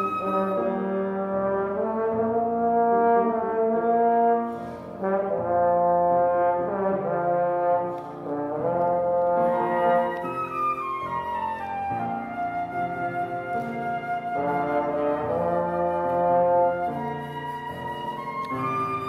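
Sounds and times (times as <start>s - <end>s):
slow instrumental music: 0.0s - 19.0s.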